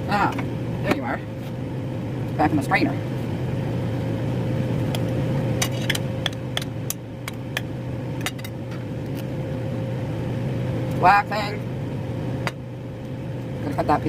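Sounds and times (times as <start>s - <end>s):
low appliance hum: 0.0s - 14.0s.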